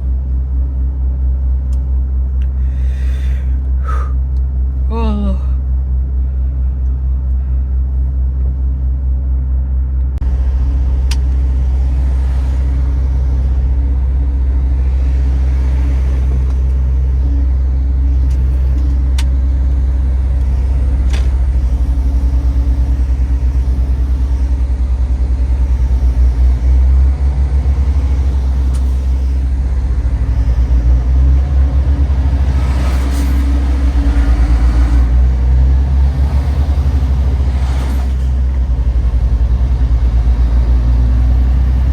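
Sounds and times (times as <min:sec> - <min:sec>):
diesel truck engine drone: 0:00.0 - 0:41.9
road rumble: 0:00.0 - 0:41.9.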